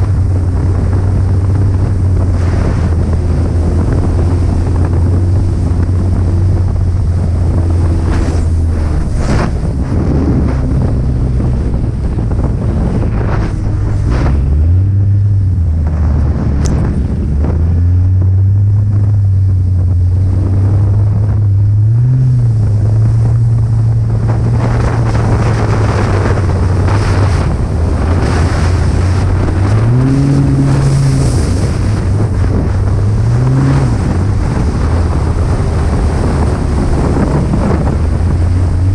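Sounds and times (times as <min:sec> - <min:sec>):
snowmobile engine running: 0:00.0 - 0:38.9
wind buffeting microphone: 0:00.0 - 0:38.9.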